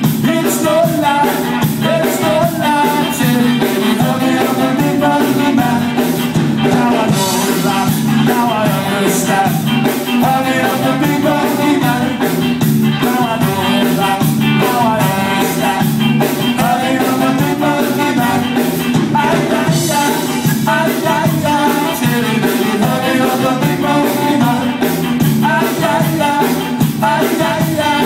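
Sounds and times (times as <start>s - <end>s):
live ska band playing: 0.0s - 28.0s
person singing: 0.0s - 28.0s.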